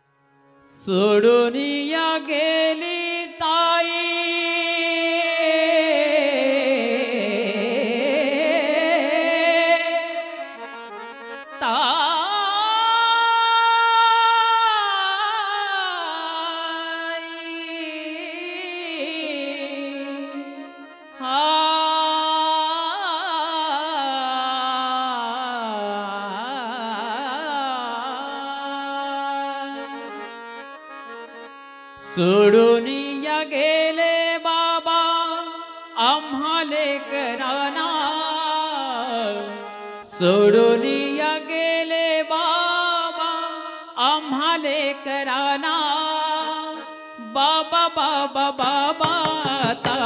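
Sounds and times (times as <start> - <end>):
ornamented devotional melody: 0.0 - 50.0.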